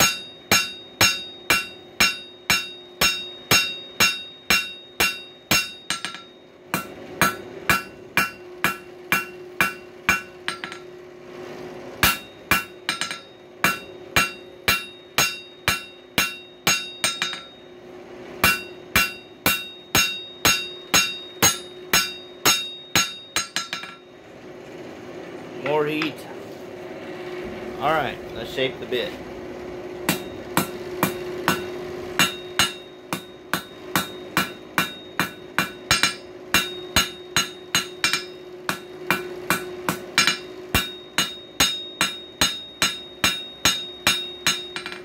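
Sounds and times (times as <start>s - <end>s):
hammer striking steel on anvil: 0.0s - 11.0s, 12.0s - 17.8s, 18.4s - 24.2s, 25.6s - 26.2s, 30.0s - 45.0s.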